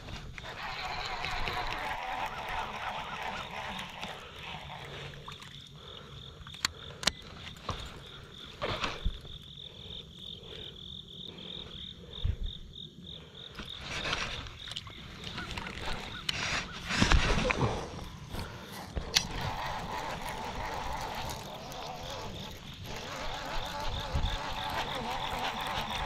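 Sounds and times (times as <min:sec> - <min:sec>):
insect chirping trill: 0:00.0 - 0:26.0.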